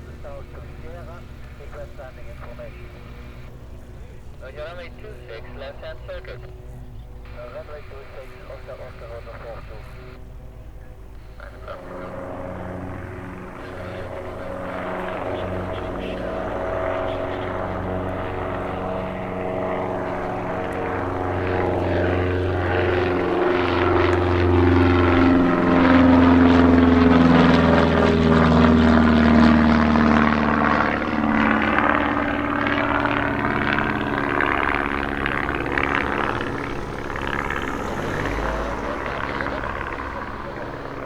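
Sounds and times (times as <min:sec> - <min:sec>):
propeller aircraft engine passing: 0:00.0 - 0:41.0.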